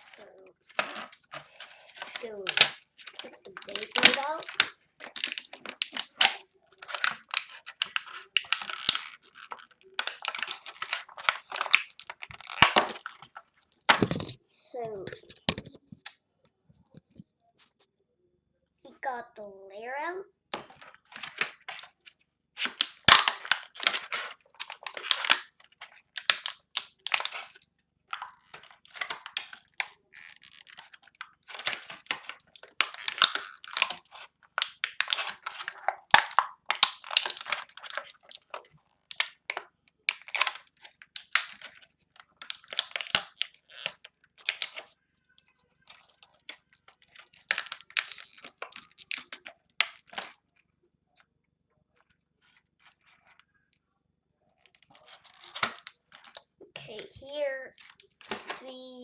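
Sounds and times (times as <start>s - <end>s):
plastic crinkling and clicking: 0.0s - 17.9s, 20.5s - 59.0s.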